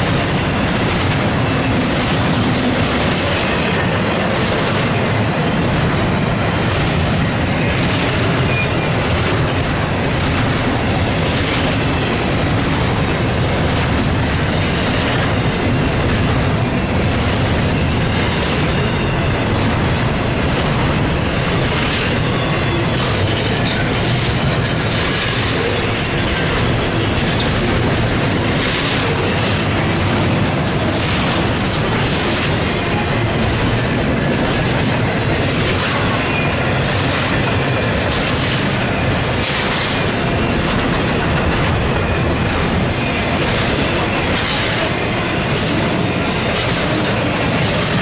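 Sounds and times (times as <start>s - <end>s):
train wheels clacking: 0.0s - 48.0s
train wheels rumbling on rail: 0.0s - 48.0s.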